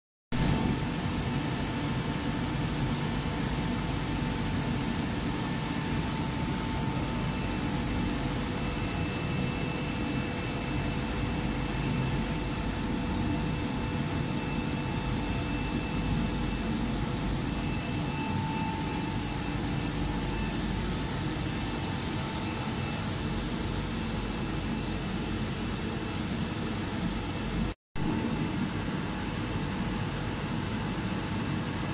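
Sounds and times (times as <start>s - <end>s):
faint steady whines: 0.4s - 31.9s.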